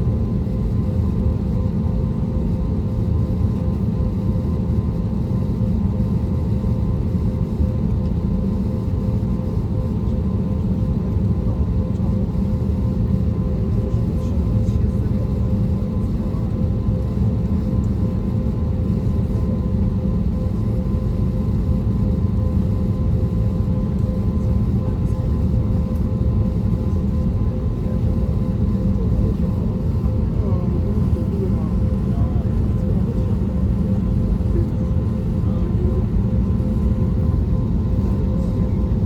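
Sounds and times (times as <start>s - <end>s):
airplane cabin rumble: 0.0s - 39.0s.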